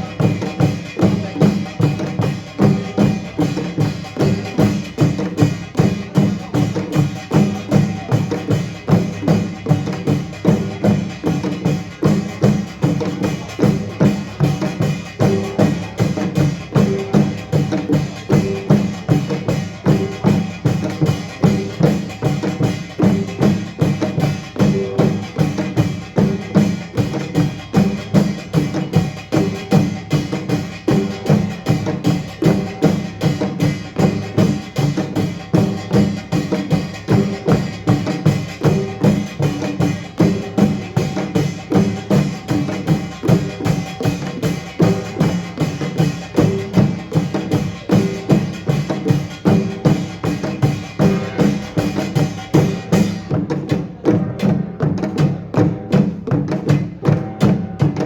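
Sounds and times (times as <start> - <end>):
percussion ensemble drums and gongs: 0.0 - 58.0.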